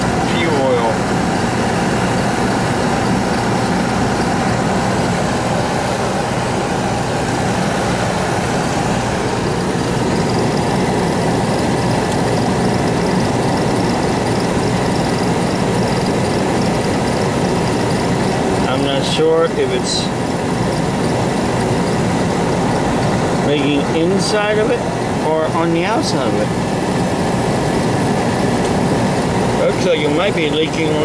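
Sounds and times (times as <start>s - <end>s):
furnace humming: 0.0s - 31.0s.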